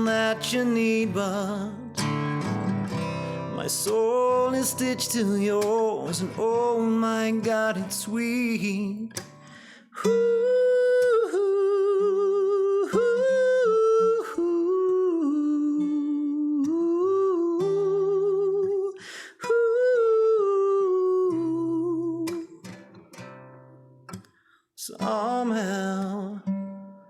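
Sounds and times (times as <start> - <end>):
soft acoustic guitar: 0.0 - 27.0.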